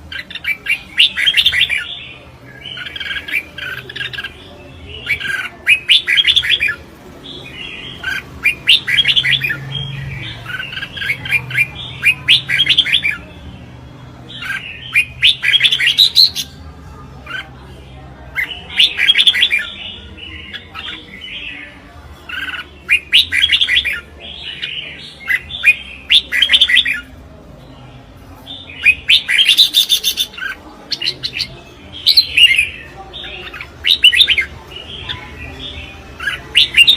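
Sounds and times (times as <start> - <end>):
bird singing chirping phrases: 0.0 - 36.9.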